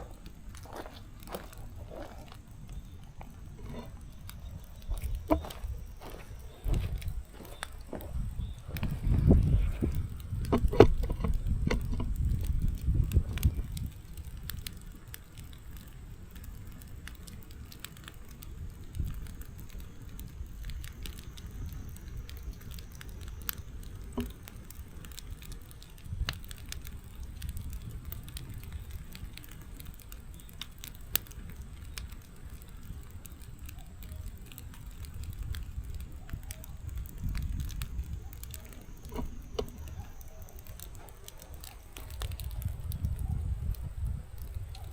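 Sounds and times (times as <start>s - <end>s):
fire crackling and popping: 0.0s - 44.9s
low rumble of flames: 0.0s - 44.9s.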